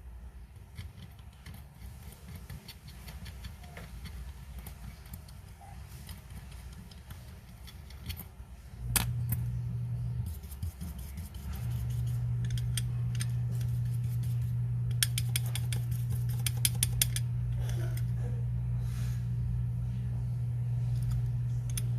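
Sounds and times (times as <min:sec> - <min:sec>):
low electric hum: 0:00.0 - 0:21.9
metal watch parts clicking: 0:00.6 - 0:09.5, 0:10.3 - 0:18.1, 0:20.9 - 0:21.9.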